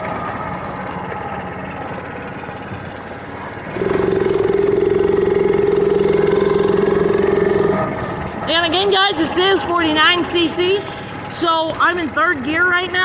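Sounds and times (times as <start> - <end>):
mini bike engine buzzing: 0.0 - 13.0.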